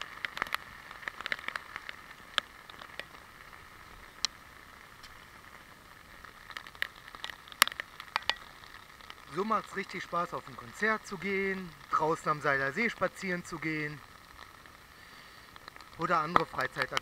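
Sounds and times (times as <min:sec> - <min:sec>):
rain hissing: 0:00.0 - 0:17.0
raindrops tapping camera housing: 0:00.0 - 0:17.0.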